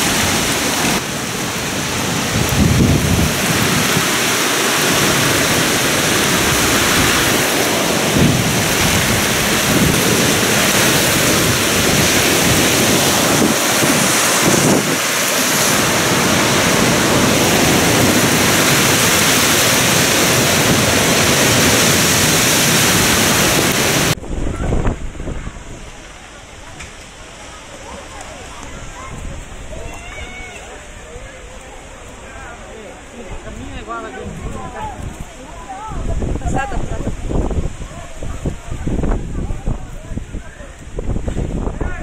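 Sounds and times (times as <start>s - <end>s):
wind buffeting microphone: 0.0s - 27.4s, 28.0s - 42.0s
heavy rain downpour: 0.0s - 42.0s
strong gusting wind: 0.0s - 42.0s.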